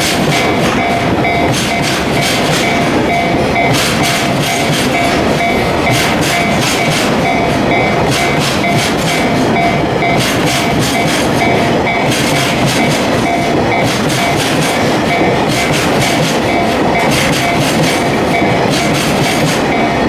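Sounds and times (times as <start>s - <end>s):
freight train rumble: 0.0s - 20.0s
level crossing warning bell: 0.0s - 20.0s
train wheels clacking over rail joints: 0.0s - 20.0s.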